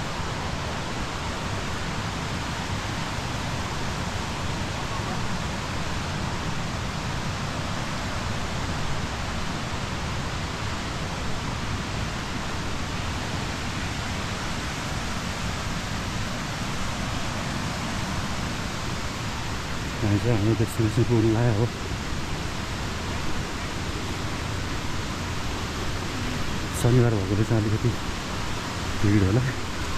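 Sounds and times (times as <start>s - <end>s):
flowing water rushing: 0.0s - 29.9s.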